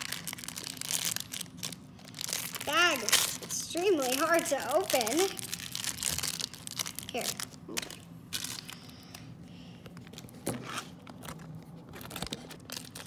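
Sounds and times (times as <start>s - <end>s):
plastic wrapper crinkling: 0.0s - 9.1s, 9.9s - 13.0s.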